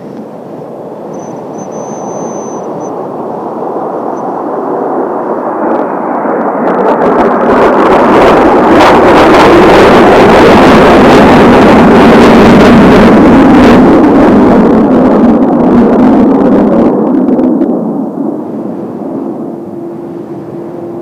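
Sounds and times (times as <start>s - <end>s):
jet aircraft passing overhead: 0.0s - 21.0s.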